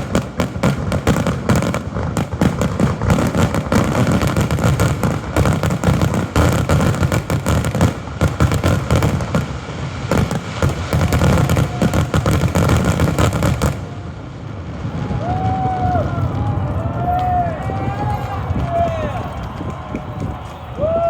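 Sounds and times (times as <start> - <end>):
fireworks bangs and bursts: 0.0 - 21.0.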